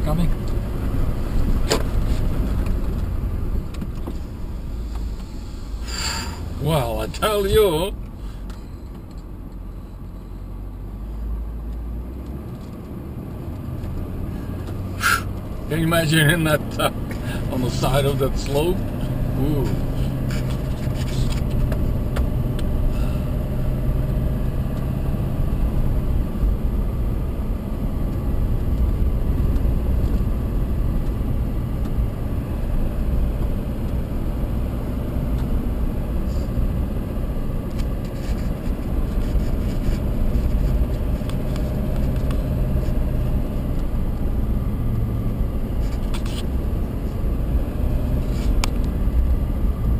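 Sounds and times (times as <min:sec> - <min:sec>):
vehicle engine drone: 0:00.0 - 0:49.9.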